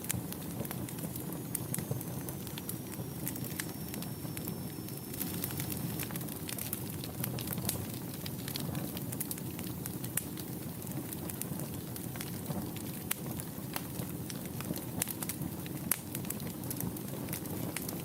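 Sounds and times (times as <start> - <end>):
fire crackling and popping: 0.0 - 18.0
fire rumbling in fireplace: 0.0 - 18.0.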